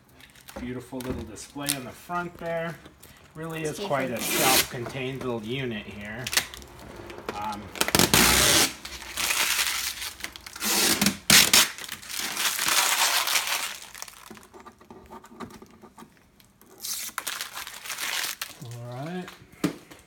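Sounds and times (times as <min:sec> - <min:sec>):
plastic film peeling and crinkling: 0:00.0 - 0:14.9, 0:15.9 - 0:19.4.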